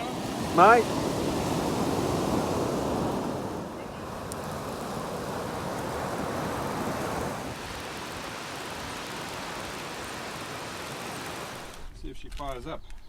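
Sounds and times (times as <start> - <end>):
wind rushing over microphone: 0.0 - 11.9.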